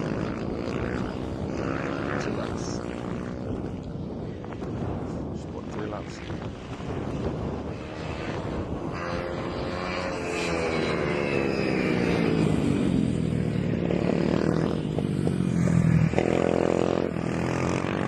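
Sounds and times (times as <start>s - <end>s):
motorcycles passing at high revs: 0.0s - 18.0s.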